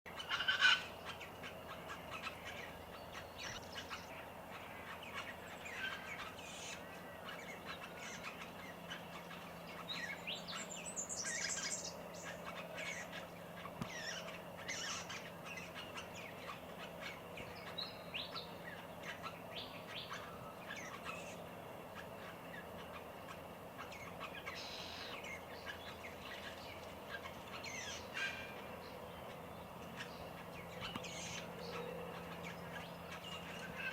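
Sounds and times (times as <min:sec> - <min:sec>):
birds chirping and calling: 0:00.1 - 0:33.9.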